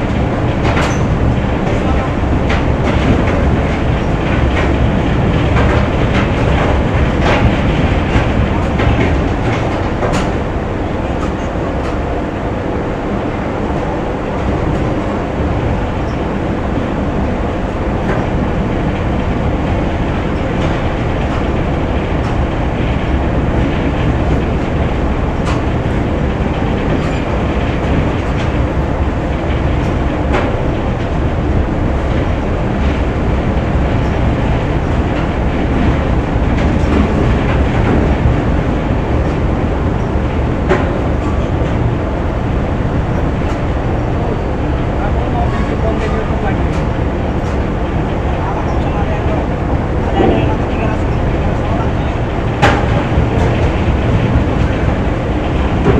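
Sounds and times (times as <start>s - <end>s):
factory machinery rumbling: 0.0s - 55.9s.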